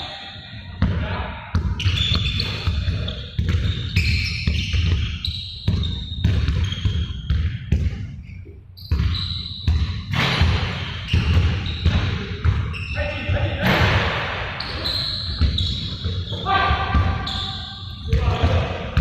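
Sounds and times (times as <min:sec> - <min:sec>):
sneaker squeaks: 0:00.0 - 0:19.0
basketballs bouncing on hardwood: 0:00.8 - 0:08.2, 0:08.9 - 0:19.0.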